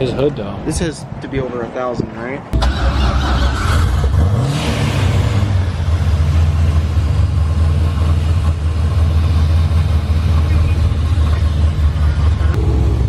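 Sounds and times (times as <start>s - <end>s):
vehicle engine rumbling: 2.3s - 13.0s.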